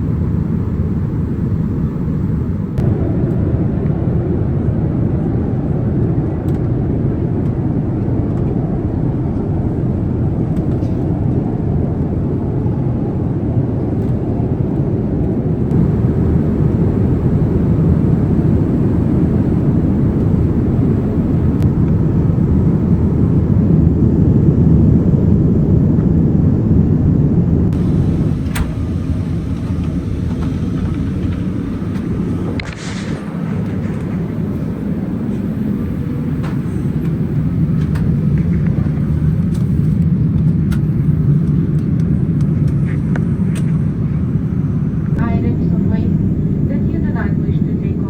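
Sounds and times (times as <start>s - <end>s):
airliner cabin engine rumble: 0.0s - 48.0s.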